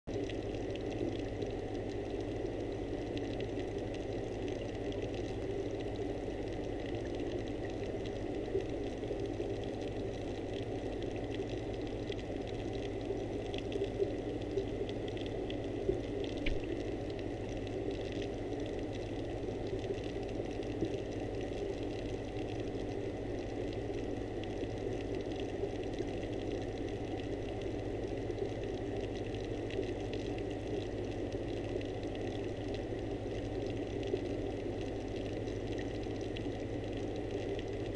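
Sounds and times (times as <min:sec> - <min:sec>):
underwater hum and hiss: 0:00.1 - 0:37.9.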